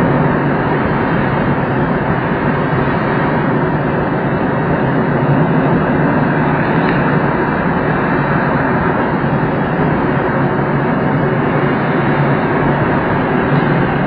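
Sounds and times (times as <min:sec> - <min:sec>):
air rushing over glider canopy: 0:00.0 - 0:14.0.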